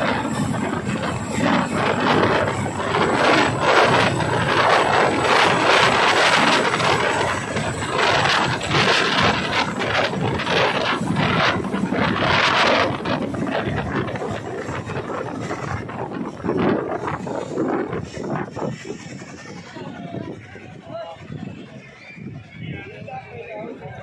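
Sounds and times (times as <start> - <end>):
helicopter rotors and engines: 0.0 - 24.0.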